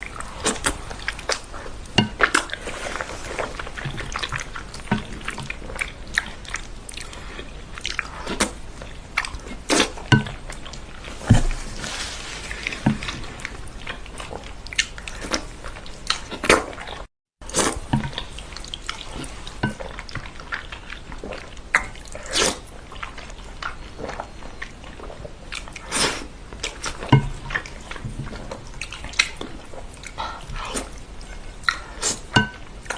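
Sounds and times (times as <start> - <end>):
wet chewing: 0.0 - 32.9.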